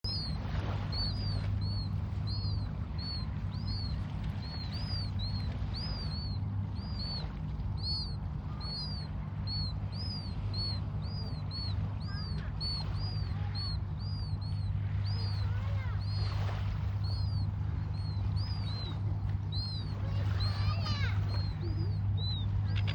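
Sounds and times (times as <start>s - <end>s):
bird chirping: 0.0s - 16.4s, 17.0s - 22.9s
lower rising bird calls: 0.0s - 22.9s
steady low hum: 0.0s - 22.9s.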